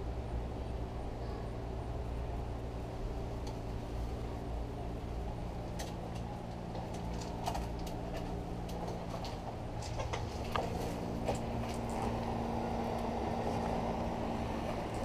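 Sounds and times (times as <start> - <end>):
low hum with steady tones: 0.0 - 15.0.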